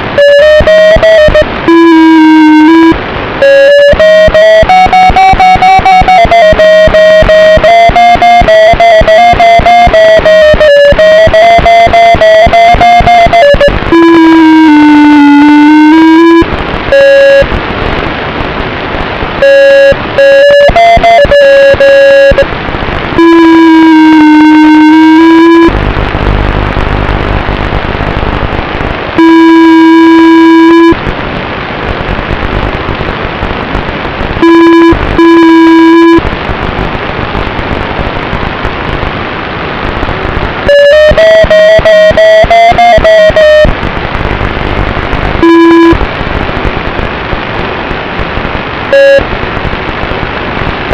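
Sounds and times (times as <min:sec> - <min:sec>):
rushing propeller and wind noise: 0:00.0 - 0:26.9, 0:27.5 - 0:50.9.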